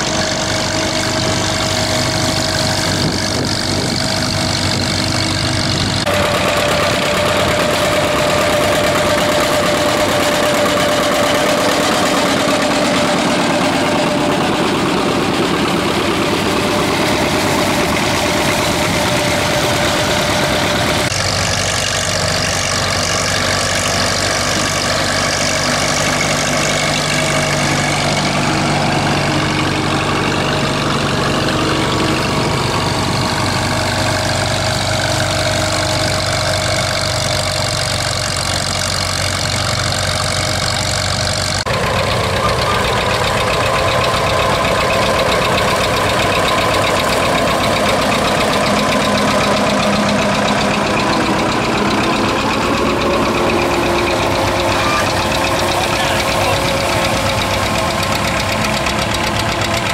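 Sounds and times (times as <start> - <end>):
tractor engines running under load: 0.0 - 59.9.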